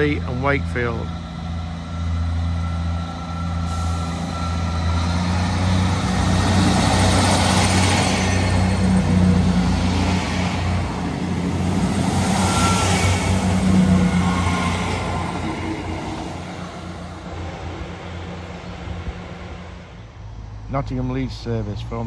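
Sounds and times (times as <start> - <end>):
wheel and rail noise: 0.0 - 20.6
diesel train engine hum: 0.0 - 22.0.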